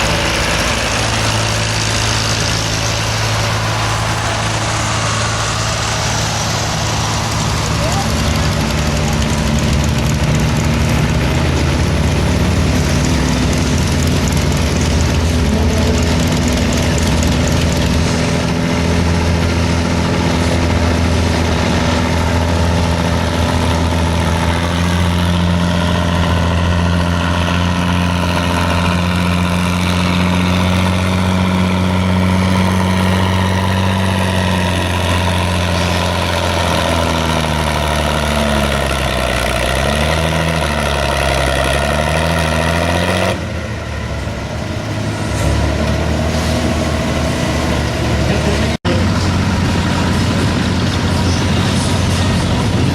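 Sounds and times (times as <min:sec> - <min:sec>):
loud tractor engine running: 0:00.0 - 0:52.9.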